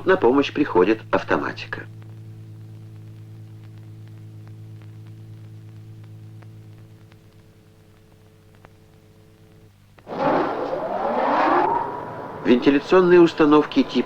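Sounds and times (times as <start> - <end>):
faint clicks: 0.0 - 14.0
low hum: 0.0 - 14.0.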